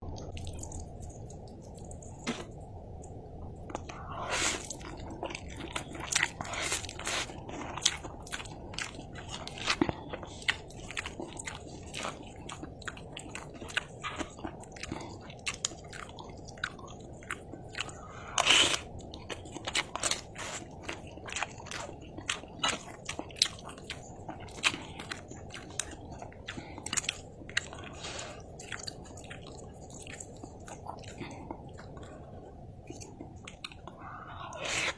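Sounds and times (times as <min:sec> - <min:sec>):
chewing noodles: 0:00.1 - 0:34.9.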